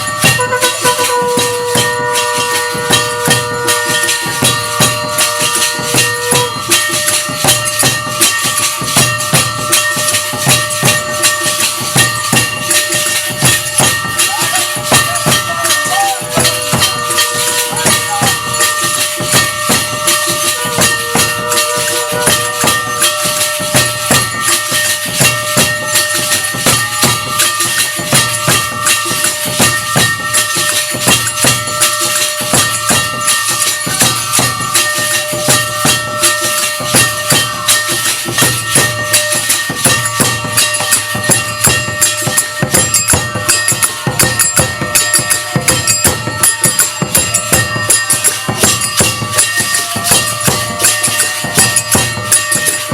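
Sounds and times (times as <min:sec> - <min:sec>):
drums beating: 0:00.0 - 0:52.9
jingling metal percussion: 0:00.0 - 0:52.9
steady ringing tones: 0:00.0 - 0:52.9.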